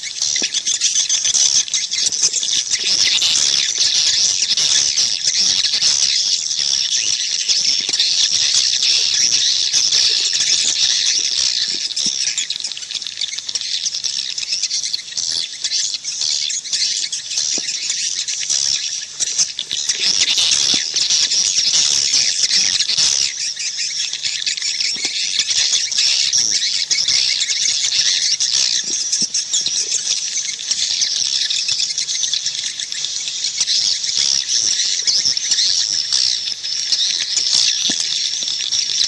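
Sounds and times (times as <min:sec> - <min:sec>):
swiftlets twittering chorus: 0:00.0 - 0:39.0.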